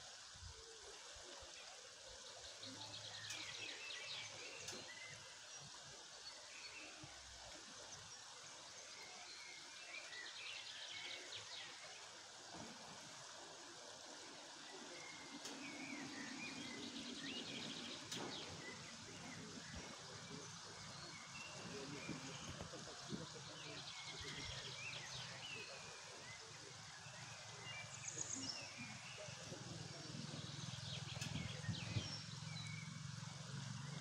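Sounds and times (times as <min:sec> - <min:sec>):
faint outdoor hiss: 0:00.0 - 0:34.0
songbirds singing and chirping: 0:00.1 - 0:34.0.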